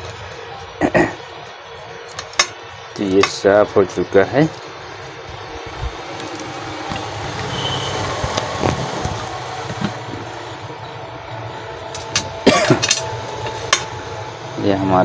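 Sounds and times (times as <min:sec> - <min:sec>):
rumbling background noise: 0:00.0 - 0:15.0.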